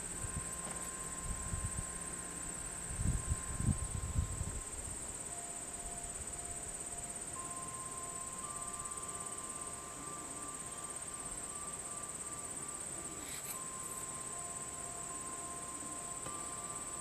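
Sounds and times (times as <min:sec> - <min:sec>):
high-pitched insect trill: 0:00.0 - 0:17.0
lower insect tones: 0:00.0 - 0:17.0.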